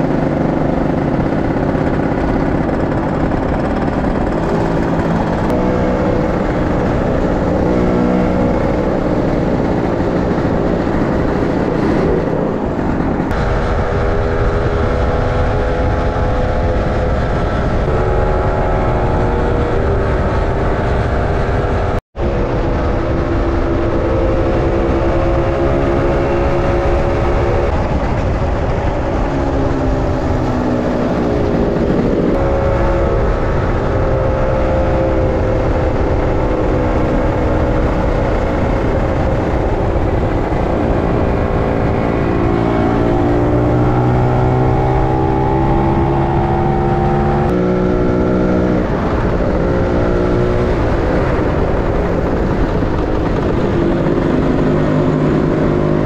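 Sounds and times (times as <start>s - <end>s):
scooter engine running: 0.0s - 20.1s, 22.3s - 56.0s
wind roar on microphone: 0.0s - 56.0s.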